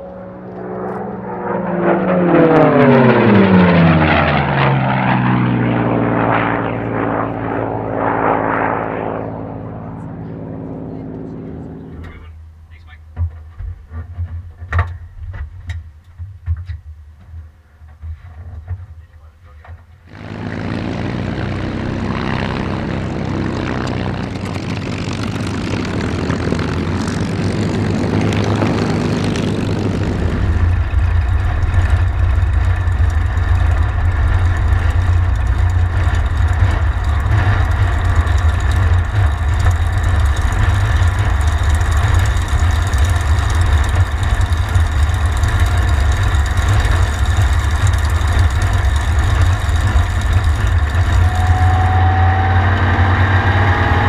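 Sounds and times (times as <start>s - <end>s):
aircraft engine running: 0.0s - 13.2s, 17.9s - 54.0s.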